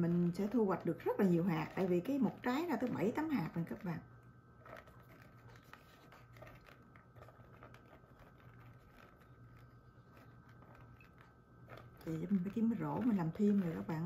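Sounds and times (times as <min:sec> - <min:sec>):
dried peas rattling in colander: 0:00.0 - 0:04.0, 0:06.3 - 0:14.0
faint steady hum: 0:00.0 - 0:14.0.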